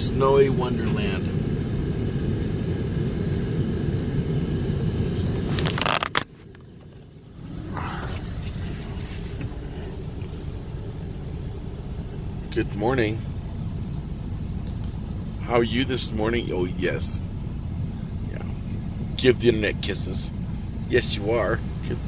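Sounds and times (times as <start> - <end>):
low vehicle rumble: 0.0 - 22.0.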